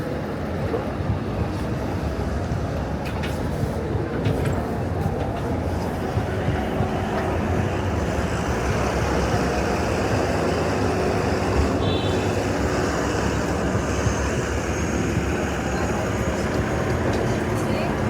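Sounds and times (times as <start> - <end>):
rumble of passing traffic: 0.0 - 18.0.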